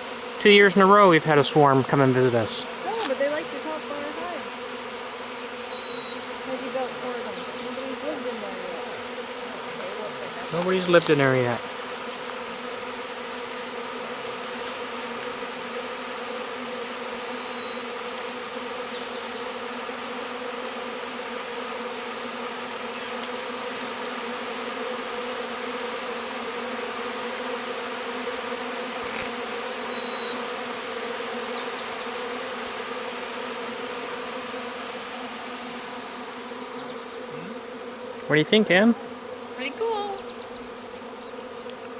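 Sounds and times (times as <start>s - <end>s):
swarm of bees buzzing: 0.0s - 41.9s.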